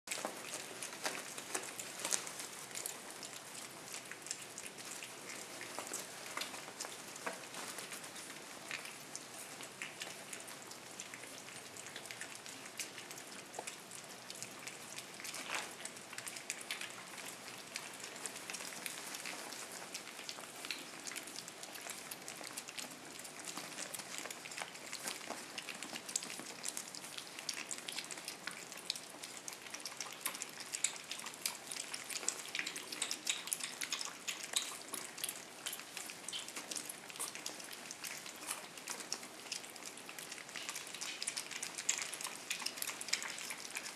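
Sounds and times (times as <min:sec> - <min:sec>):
puppies lapping and chewing: 0:00.1 - 0:43.9.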